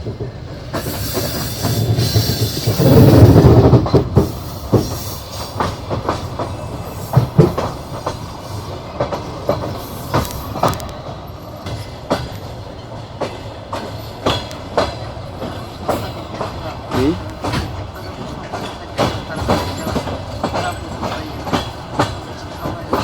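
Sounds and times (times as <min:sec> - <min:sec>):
heavy train rumble: 0:00.0 - 0:23.0
train wheels clattering over rail joints: 0:00.0 - 0:23.0.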